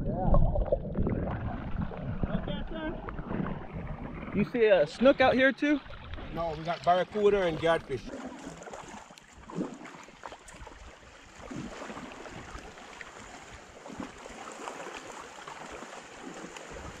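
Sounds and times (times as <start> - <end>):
horses splashing through water: 1.2 - 17.0.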